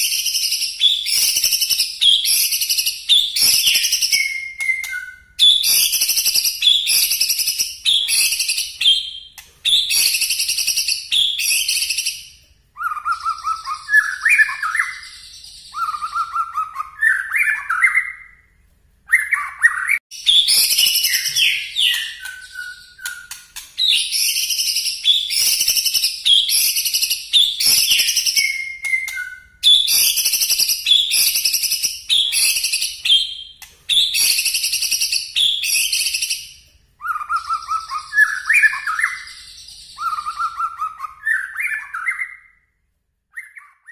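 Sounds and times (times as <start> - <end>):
bird singing high whistled phrases: 0.0 - 18.5, 19.1 - 42.7, 43.3 - 43.9.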